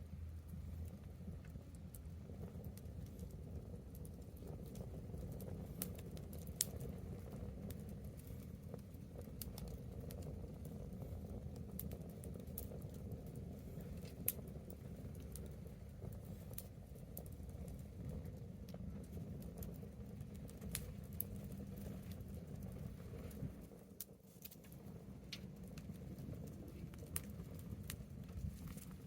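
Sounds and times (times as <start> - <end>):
bonfire crackling: 0.0 - 29.0
low steady rumble: 0.0 - 29.0
sharp fire pops: 1.7 - 29.0.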